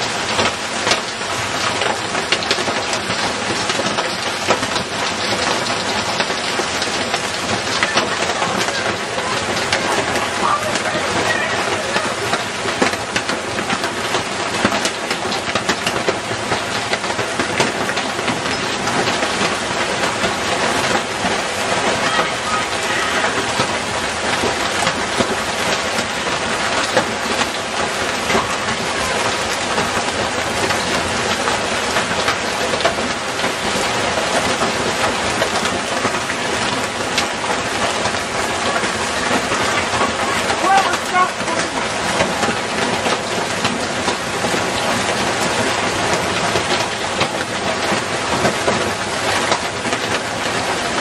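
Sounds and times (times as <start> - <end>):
hail pelting house: 0.0 - 51.0.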